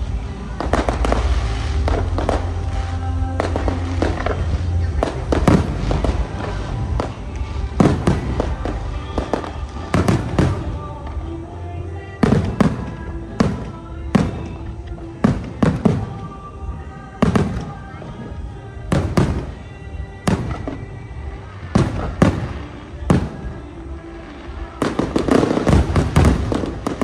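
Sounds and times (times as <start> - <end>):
fireworks bangs: 0.0 - 27.0
music playing: 0.0 - 27.0.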